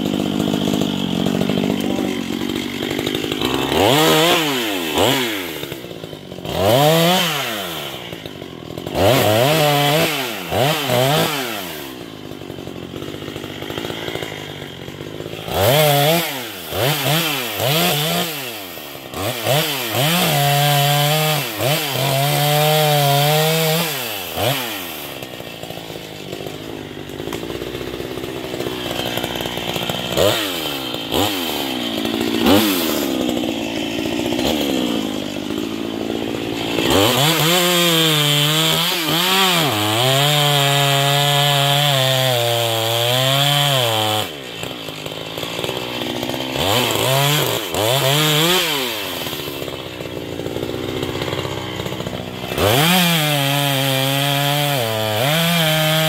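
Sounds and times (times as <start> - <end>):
chainsaw cutting log: 0.0 - 56.0
chainsaw idling and revving: 0.0 - 56.0.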